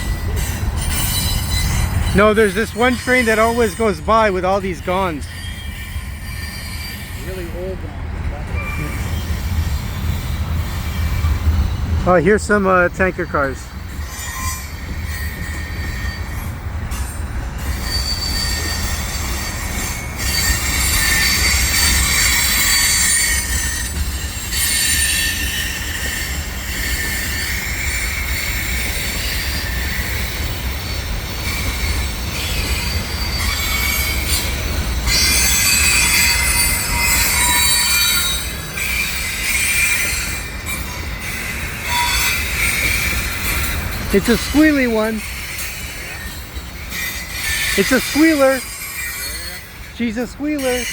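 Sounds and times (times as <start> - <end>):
train rumbling: 0.0 - 50.9
train wheels squealing on rails: 0.0 - 50.9.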